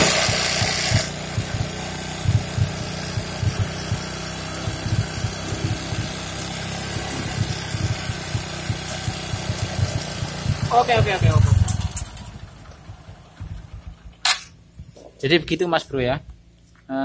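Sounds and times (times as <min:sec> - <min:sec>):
motorcycle engine idling: 0:00.0 - 0:15.5.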